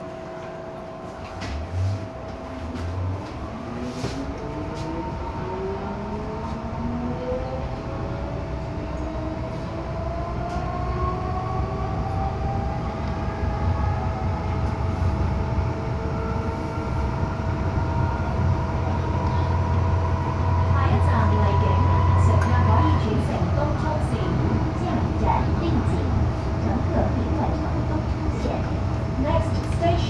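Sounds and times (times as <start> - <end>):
low rail rumble: 0.0 - 30.0
traction motors whining: 1.2 - 29.9.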